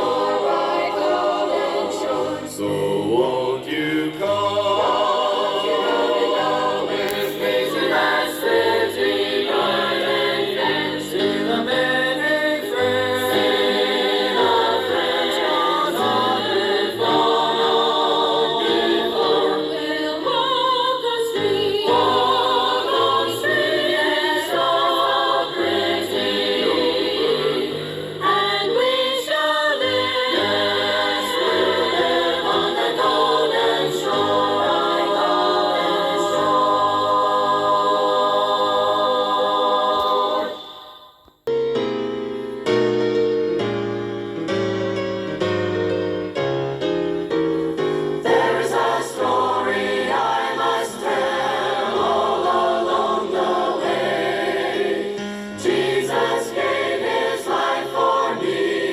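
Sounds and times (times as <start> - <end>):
choir singing gospel song: 0.0 - 41.2, 47.8 - 58.9.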